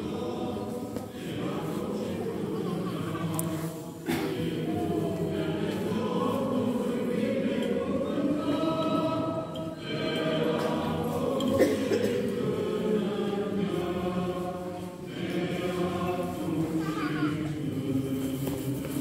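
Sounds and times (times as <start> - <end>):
choir singing a cappella chant: 0.0 - 19.0.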